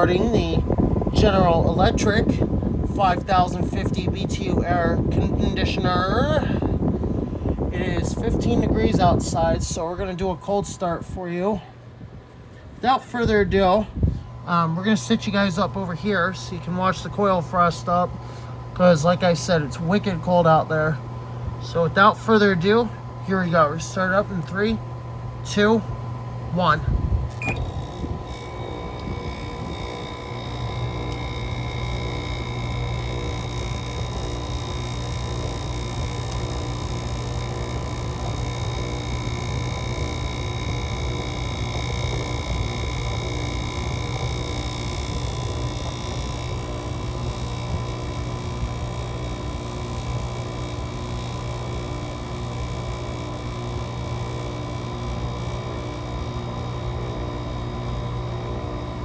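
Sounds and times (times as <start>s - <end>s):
thin whine: 0.0s - 59.0s
window air conditioner humming: 0.0s - 59.0s.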